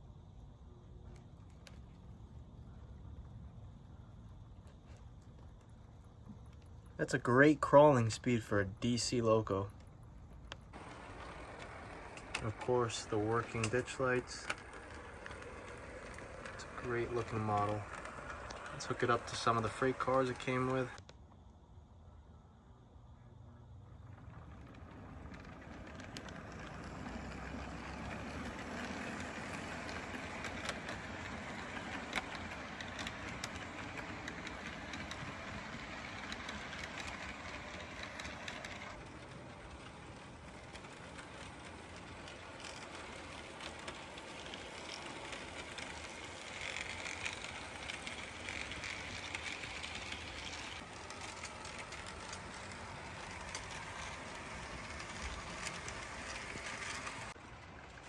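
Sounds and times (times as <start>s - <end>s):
model locomotive motor whir: 0.0s - 21.4s, 23.4s - 58.0s
wheels clicking on rails: 0.0s - 21.4s, 23.4s - 58.0s.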